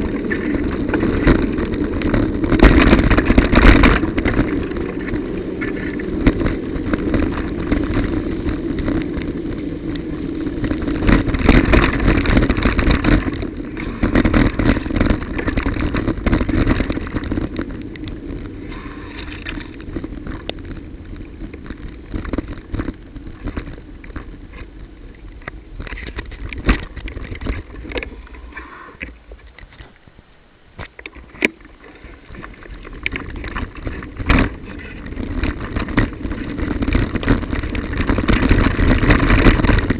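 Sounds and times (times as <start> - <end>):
bicycle tyres on wet road: 0.0 - 39.9
bike knocking and rattling: 0.0 - 39.9.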